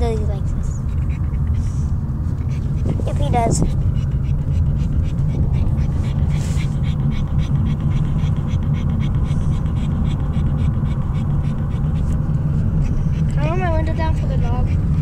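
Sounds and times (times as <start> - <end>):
car cabin rumble: 0.0 - 15.0
dog panting: 0.0 - 15.0.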